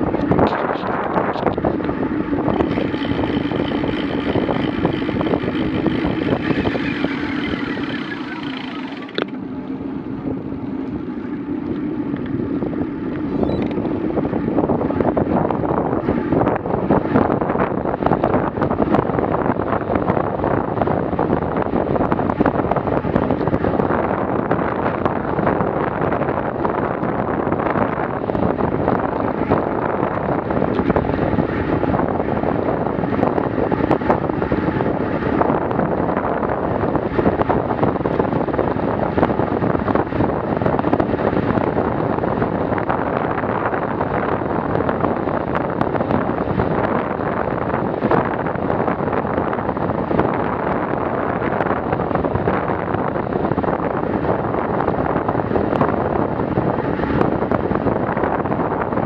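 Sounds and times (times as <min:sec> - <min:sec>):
tyre and road noise: 0:00.0 - 0:59.0
wind rushing over microphone: 0:00.0 - 0:59.0.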